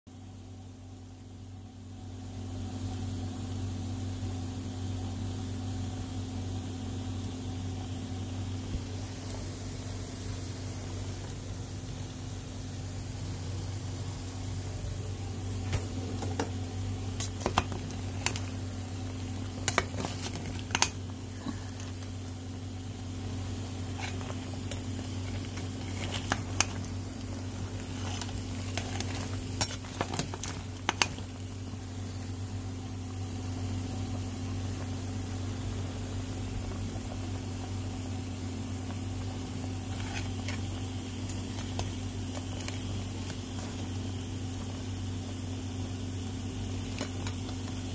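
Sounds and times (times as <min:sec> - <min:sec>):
steady low hum: 0:00.1 - 0:47.9
pot bubbling: 0:03.8 - 0:47.9
food sizzling in pan: 0:06.4 - 0:47.9.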